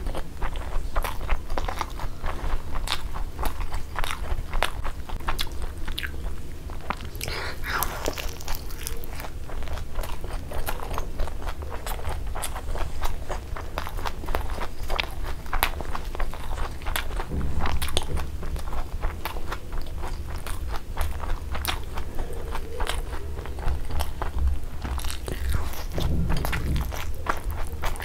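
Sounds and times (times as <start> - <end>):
chewing crispy food: 0.0 - 28.0.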